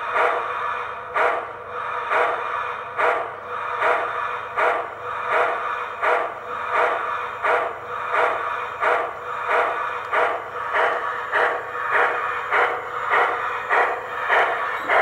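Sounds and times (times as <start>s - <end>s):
model steam locomotive chuffs: 0.0s - 15.0s.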